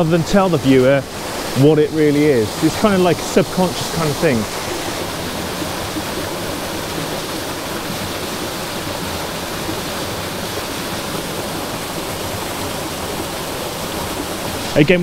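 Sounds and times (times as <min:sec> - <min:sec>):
stream running over stones: 0:00.0 - 0:15.0
waterfall pouring into pool: 0:00.0 - 0:15.0.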